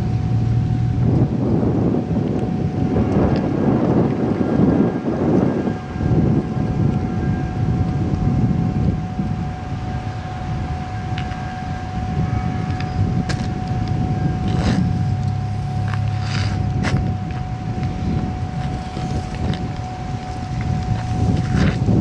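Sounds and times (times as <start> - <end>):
faint steady whine: 0.0 - 22.0
traffic rumble: 0.0 - 22.0
vehicle engine droning: 0.0 - 22.0
wind buffeting microphone: 0.0 - 22.0.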